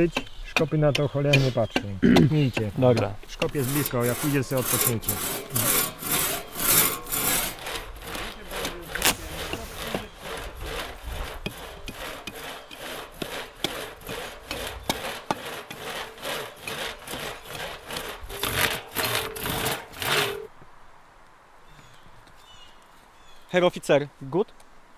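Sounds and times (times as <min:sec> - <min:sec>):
hand saw cutting through log: 0:00.0 - 0:20.5.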